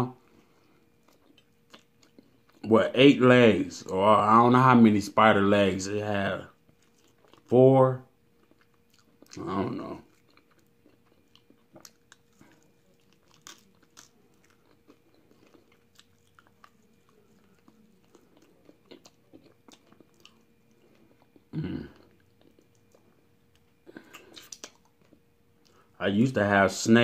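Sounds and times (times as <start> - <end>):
chewing crispy fried chicken: 0.1 - 2.7, 6.4 - 26.3.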